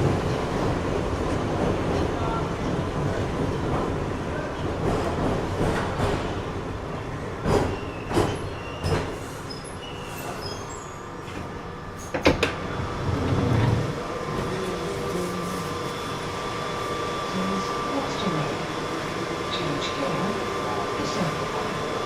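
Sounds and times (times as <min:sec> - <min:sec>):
train running rumble: 0:00.0 - 0:09.5, 0:11.2 - 0:22.0.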